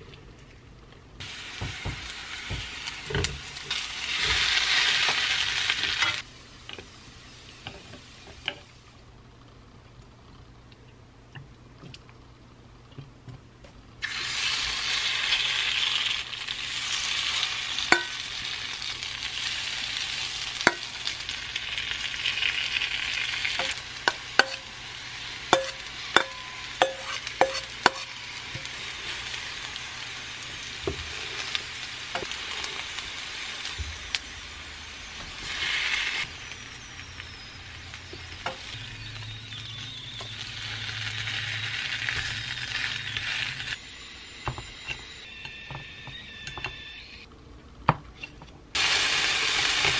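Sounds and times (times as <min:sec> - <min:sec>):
potato pancake sizzling in oil: 0:01.2 - 0:09.0, 0:14.0 - 0:46.2, 0:48.8 - 0:49.9.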